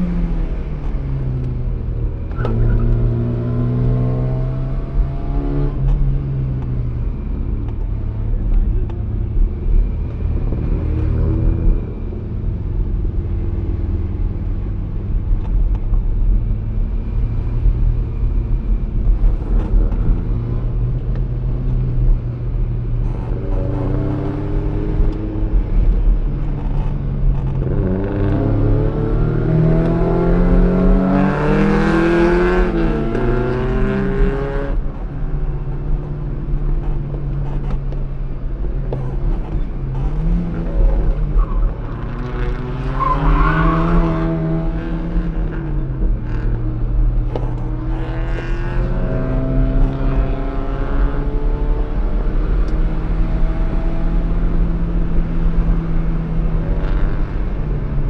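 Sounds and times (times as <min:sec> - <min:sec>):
car engine revving through gears: 0:00.0 - 0:12.2, 0:22.8 - 0:58.0.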